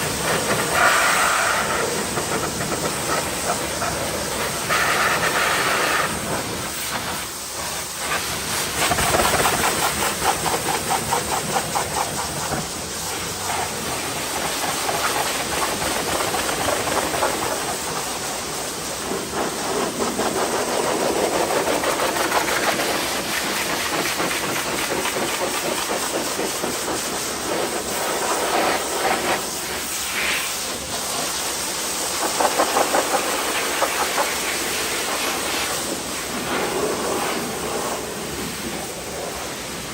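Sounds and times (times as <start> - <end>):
pressure washer spraying car: 0.0 - 39.9.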